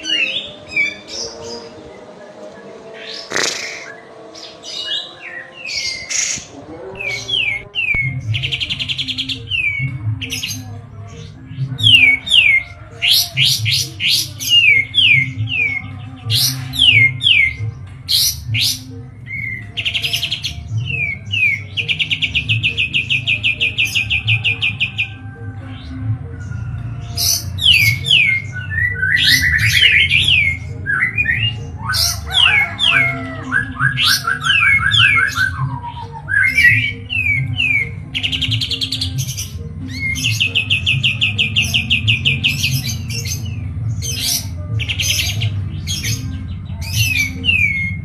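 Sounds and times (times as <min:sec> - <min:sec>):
songbird singing: 0:00.0 - 0:48.0.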